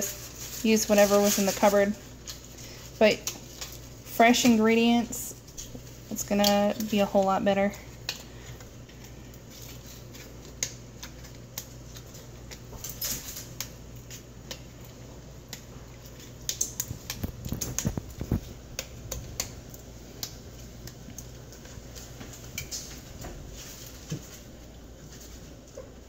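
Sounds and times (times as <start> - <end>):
steady low hum: 0.0 - 26.0
dough snapping and clicking: 2.1 - 4.6, 5.3 - 26.0.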